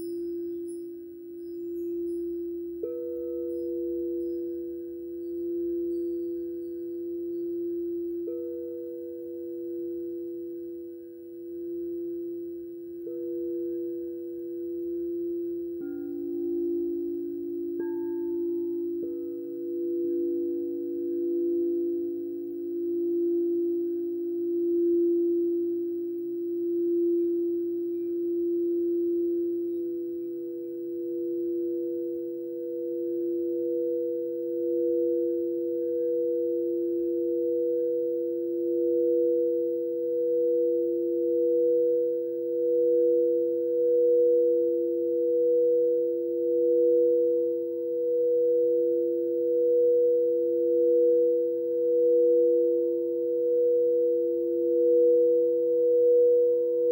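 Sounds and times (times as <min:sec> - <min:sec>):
high singing bowl tone: 0:00.0 - 0:56.9
low singing bowl tone: 0:00.0 - 0:56.9.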